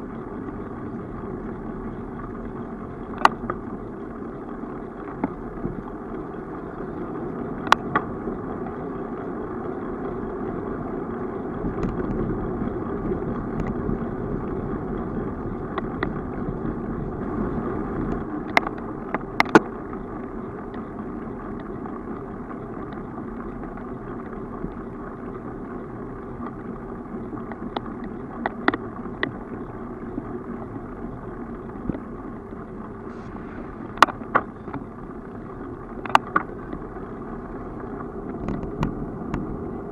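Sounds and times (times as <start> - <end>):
bicycle rolling on asphalt: 0.0 - 39.9.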